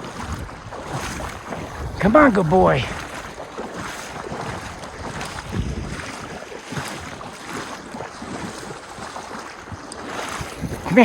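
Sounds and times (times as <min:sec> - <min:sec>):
water splashing and sloshing: 0:00.0 - 0:11.0
wind buffeting microphone: 0:00.0 - 0:11.0.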